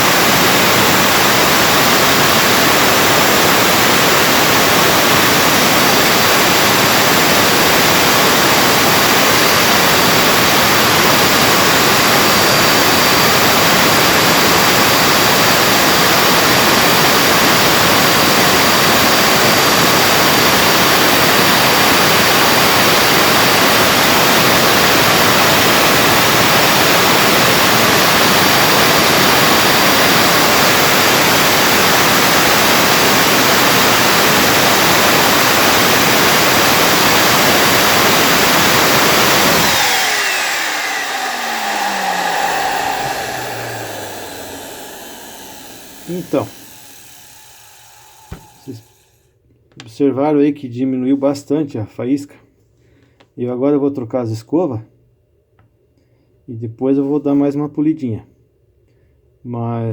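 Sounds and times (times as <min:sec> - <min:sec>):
vacuum cleaner motor running: 0:00.0 - 0:49.1.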